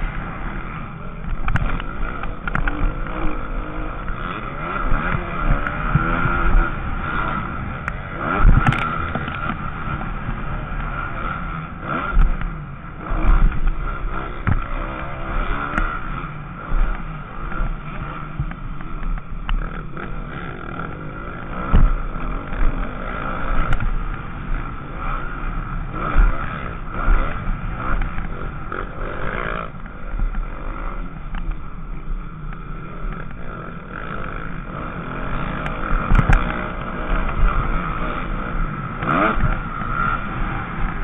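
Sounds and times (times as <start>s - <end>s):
motocross bike engine revving: 0.0s - 41.0s.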